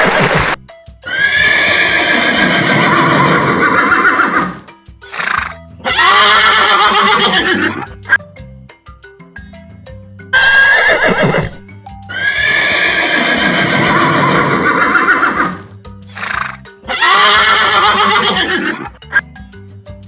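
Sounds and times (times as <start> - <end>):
horse neighing: 0.0 - 8.2, 10.3 - 19.2
light background music: 0.5 - 20.0.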